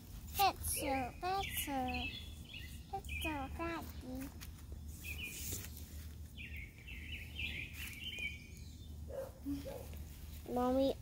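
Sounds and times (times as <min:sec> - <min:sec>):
low background rumble: 0:00.0 - 0:11.0
songbird singing: 0:00.4 - 0:10.0.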